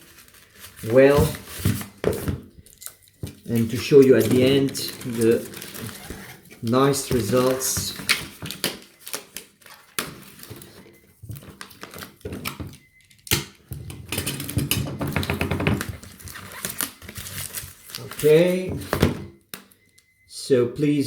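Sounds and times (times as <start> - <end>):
cardboard and bubble wrap rustling: 0.0 - 20.1.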